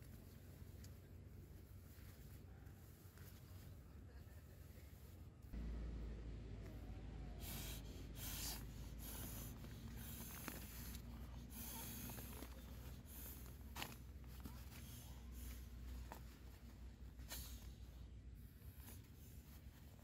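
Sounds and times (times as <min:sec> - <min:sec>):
fabric rustling and crinkling: 0:00.0 - 0:05.6, 0:08.3 - 0:20.0.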